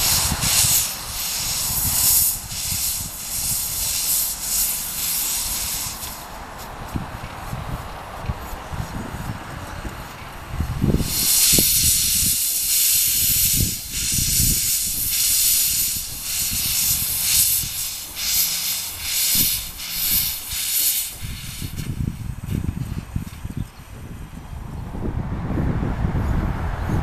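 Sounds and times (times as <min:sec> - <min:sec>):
steam locomotive hissing: 0:00.0 - 0:24.4.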